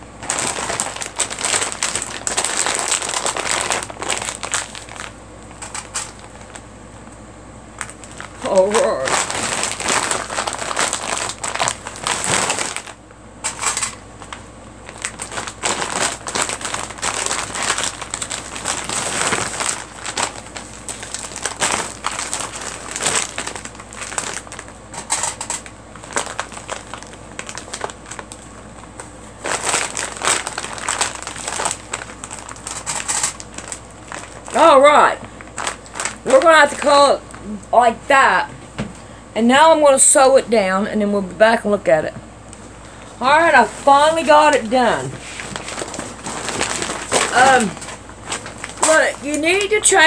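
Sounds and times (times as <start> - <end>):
quilt crinkling and rustling: 0.1 - 6.7, 7.8 - 37.5, 42.6 - 50.0.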